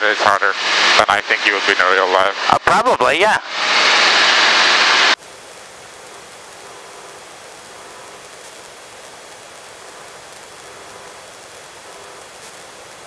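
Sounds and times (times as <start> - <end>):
intercom hiss: 0.0 - 13.0.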